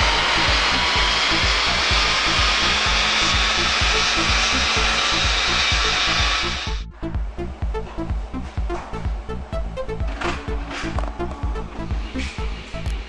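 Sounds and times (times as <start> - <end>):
background music with beat: 0.0 - 13.0
car engine on dynamometer: 0.0 - 13.0
cooling fan noise: 0.0 - 13.0.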